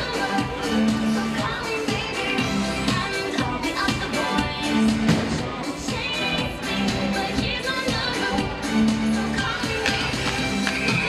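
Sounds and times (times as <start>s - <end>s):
pop music with singing: 0.0s - 11.0s.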